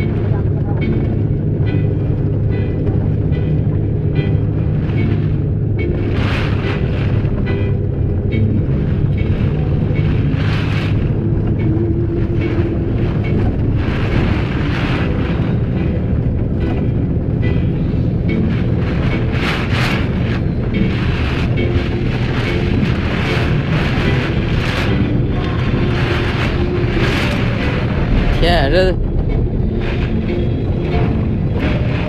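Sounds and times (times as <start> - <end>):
driving rain: 0.0 - 32.0
storm wind gusts: 0.0 - 32.0.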